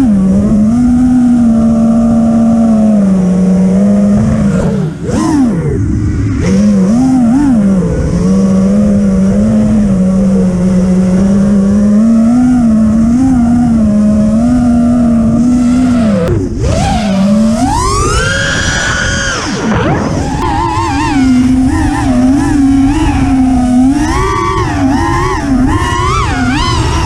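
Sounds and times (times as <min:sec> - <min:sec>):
quadcopter electric motors whining: 0:00.0 - 0:27.0.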